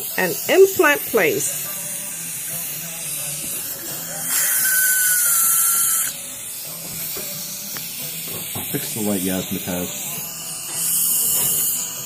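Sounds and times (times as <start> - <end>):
dental handpiece whine: 0.0 - 12.0
suction tip hiss: 0.0 - 12.0.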